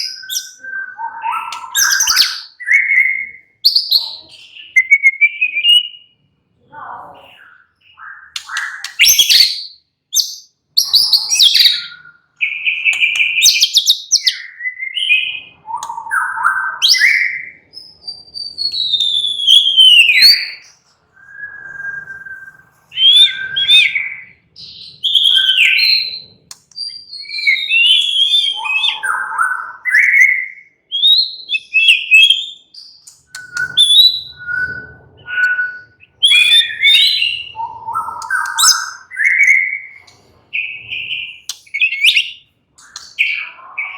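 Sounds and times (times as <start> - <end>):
bird singing whistled phrases: 0.0 - 6.2, 7.0 - 43.9.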